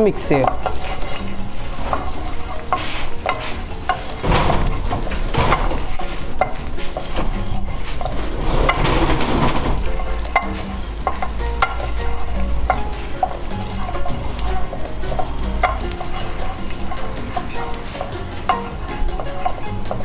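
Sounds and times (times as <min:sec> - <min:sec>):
garlic sizzling in hot oil: 0:00.0 - 0:20.0
utensil scraping a pan: 0:00.0 - 0:20.0.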